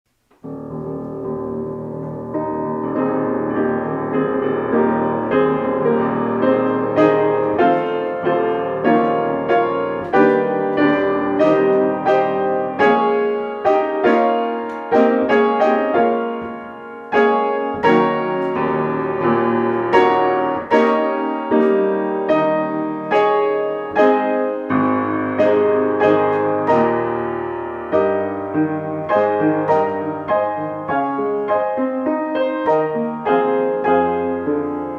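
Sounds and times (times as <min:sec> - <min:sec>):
slow gentle piano piece: 0:00.1 - 0:34.9.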